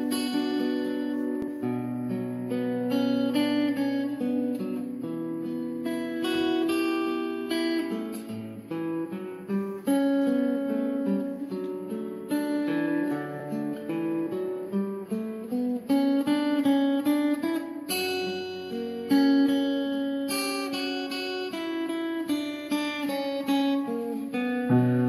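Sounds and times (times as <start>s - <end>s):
acoustic guitar melody: 0.0s - 25.0s.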